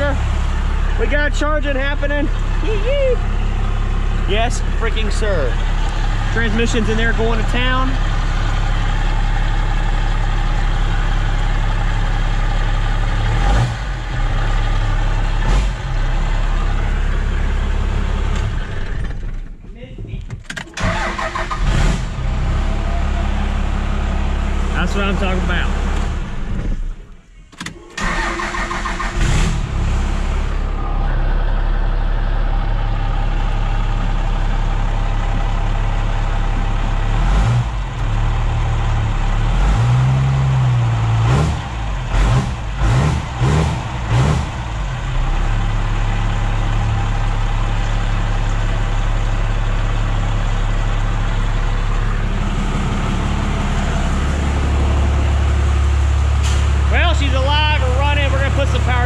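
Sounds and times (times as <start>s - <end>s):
diesel engine idling and revving: 0.0s - 59.0s.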